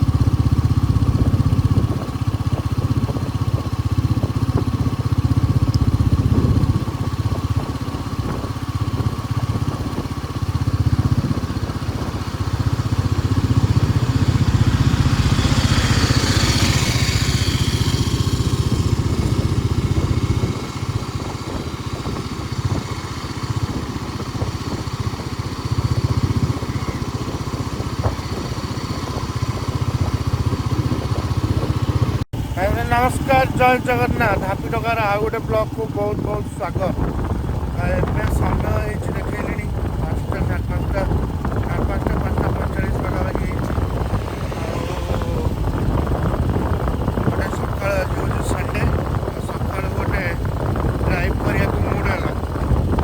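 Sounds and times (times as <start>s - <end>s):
vehicle engine and wind rumble: 0.0s - 53.0s.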